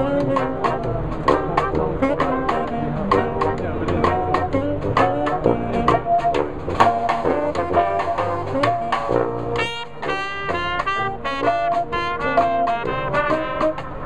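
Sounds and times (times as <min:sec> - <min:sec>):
brass band playing jazz: 0:00.0 - 0:14.0
high horn notes: 0:00.0 - 0:14.0
sousaphone bass line: 0:00.0 - 0:14.0
steady snare drum beat: 0:00.0 - 0:14.0.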